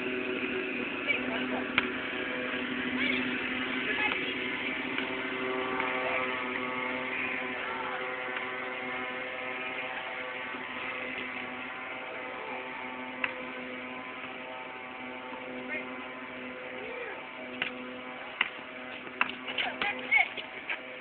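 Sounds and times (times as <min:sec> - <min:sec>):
steady hum of held tones: 0:00.0 - 0:21.0.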